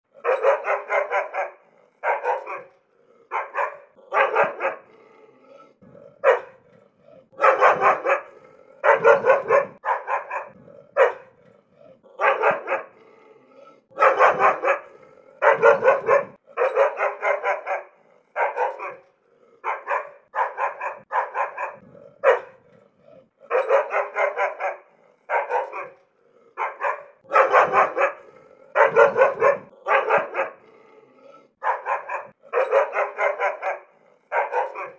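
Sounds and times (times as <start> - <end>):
dog barking: 0.2 - 5.1, 5.8 - 34.9.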